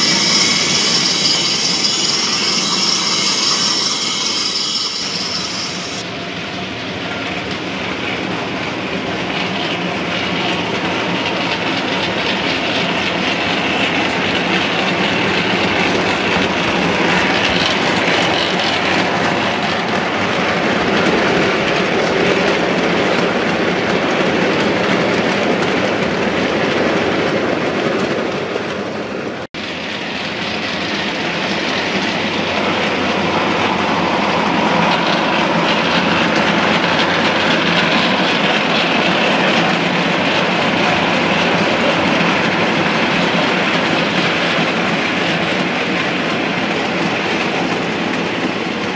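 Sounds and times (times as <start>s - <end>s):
model train wheels rumbling: 0.0s - 48.9s.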